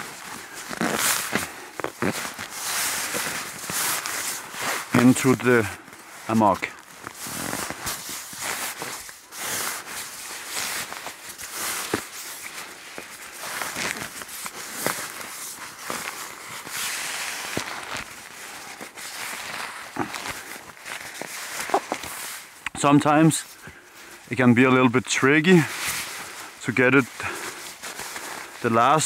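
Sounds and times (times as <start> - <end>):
nylon fabric rustling and scraping: 0.0 - 29.0.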